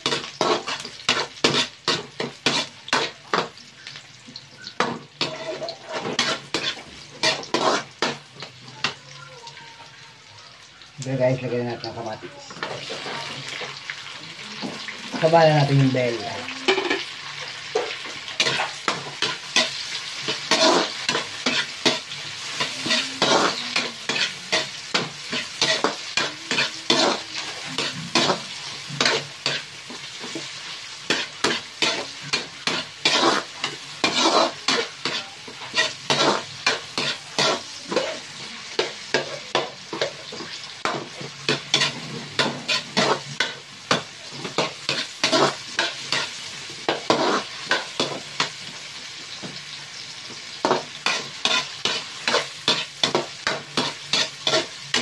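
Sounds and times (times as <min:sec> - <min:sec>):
metal spatula scraping wok: 0:00.0 - 0:04.0, 0:04.8 - 0:09.0, 0:15.1 - 0:48.8, 0:49.4 - 0:55.0
light sizzle: 0:00.0 - 0:55.0.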